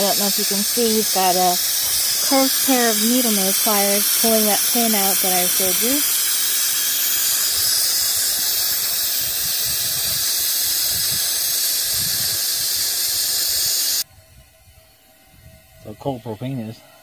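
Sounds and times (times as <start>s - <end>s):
gas hissing from cylinder: 0.0s - 14.1s.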